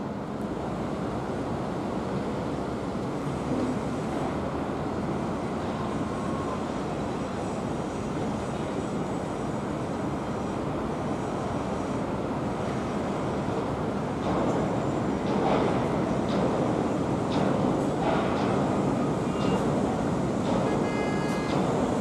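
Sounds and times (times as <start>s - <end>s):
distant train rumbling: 3.1s - 22.0s.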